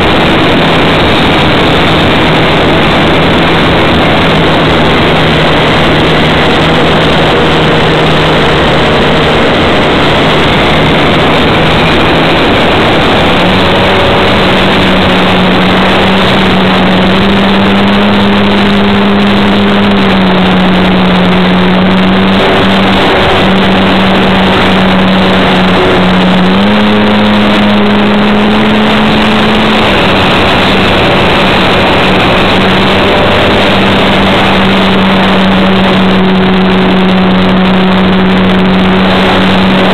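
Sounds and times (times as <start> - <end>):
model plane motor and propeller: 0.0 - 39.9
wind rush: 0.0 - 39.9.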